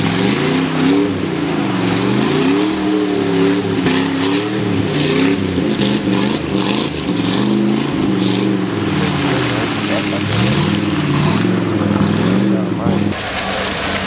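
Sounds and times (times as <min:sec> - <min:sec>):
truck engine revving: 0:00.0 - 0:14.0
wheels spinning through mud: 0:00.0 - 0:14.0.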